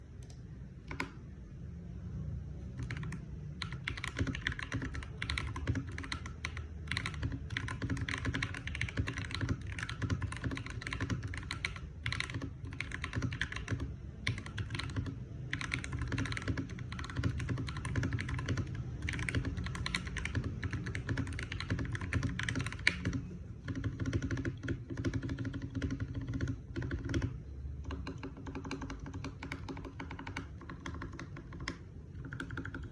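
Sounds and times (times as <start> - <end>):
mechanical keyboard typing: 0.2 - 1.2, 2.7 - 32.9.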